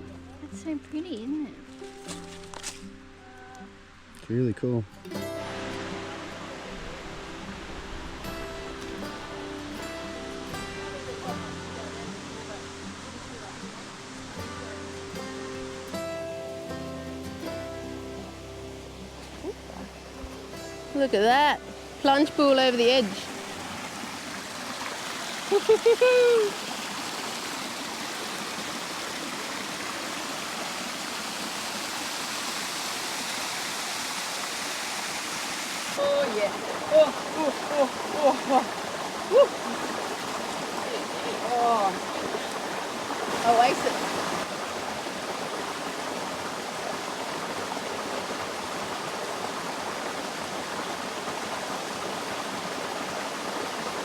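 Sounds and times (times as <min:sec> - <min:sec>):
waterfall pouring into pool: 0:05.1 - 0:16.0, 0:21.6 - 0:54.0.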